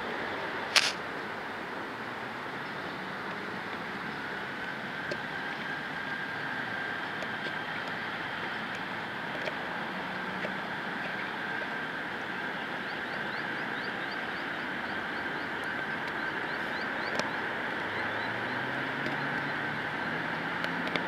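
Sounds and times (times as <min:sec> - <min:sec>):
distant road traffic hum: 0:00.0 - 0:21.0
low engine drone: 0:00.0 - 0:21.0.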